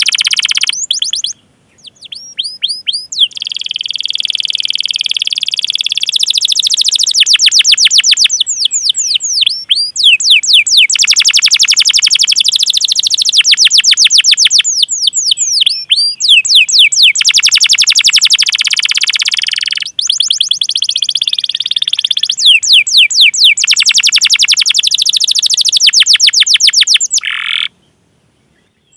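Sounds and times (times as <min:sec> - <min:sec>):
canary singing: 0:00.0 - 0:27.8.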